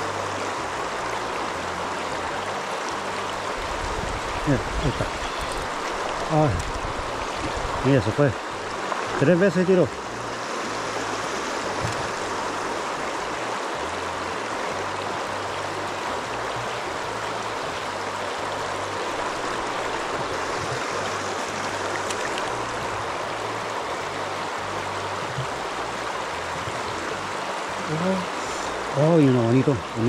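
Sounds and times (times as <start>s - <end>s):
river current rushing: 0.0s - 30.0s.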